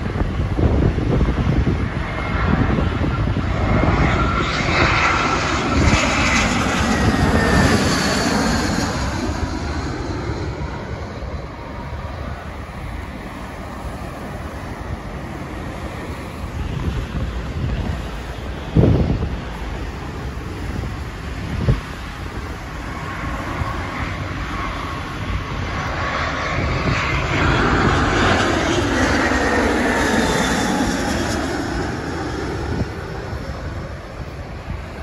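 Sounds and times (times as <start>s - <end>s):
jet plane passing over: 0.0s - 35.0s.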